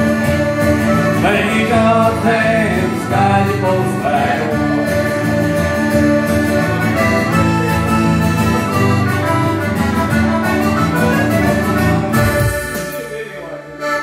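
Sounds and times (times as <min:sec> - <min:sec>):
accordion melody: 0:00.0 - 0:14.0
strummed acoustic guitar: 0:00.0 - 0:14.0.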